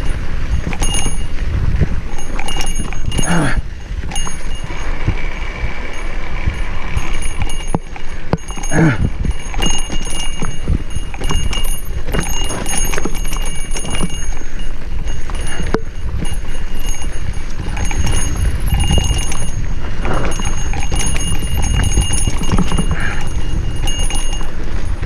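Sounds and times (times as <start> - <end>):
bike knocking and rattling: 0.0 - 25.0
wind buffeting microphone: 0.0 - 25.0.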